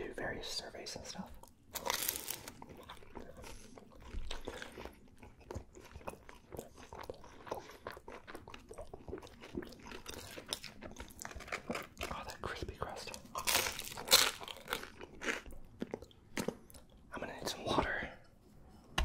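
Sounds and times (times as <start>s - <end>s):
chewing crunchy pizza crust: 1.3s - 17.6s.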